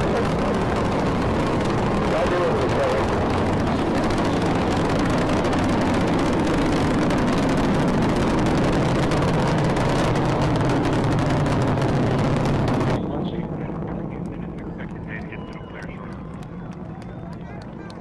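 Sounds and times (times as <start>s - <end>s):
rocket exhaust rumble: 0.0s - 18.0s.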